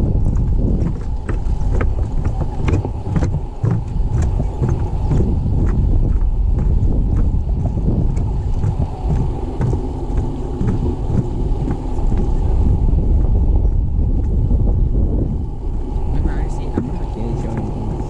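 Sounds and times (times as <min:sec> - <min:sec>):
footsteps on gravel: 0:00.0 - 0:14.5
wind buffeting microphone: 0:00.0 - 0:18.0.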